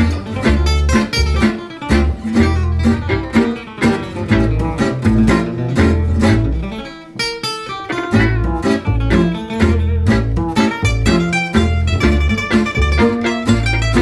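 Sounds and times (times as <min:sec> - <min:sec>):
low bass line: 0:00.0 - 0:06.9, 0:08.0 - 0:14.0
acoustic guitar plucking: 0:00.0 - 0:14.0.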